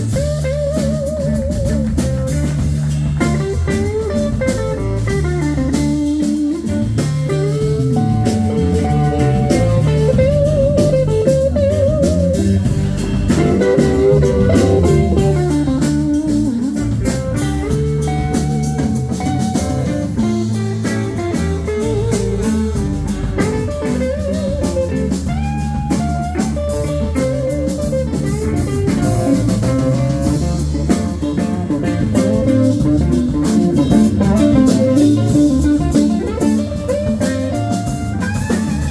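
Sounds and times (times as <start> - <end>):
drum kit: 0.0 - 38.9
live blues band: 0.0 - 38.9
wavering electric guitar: 0.0 - 38.9.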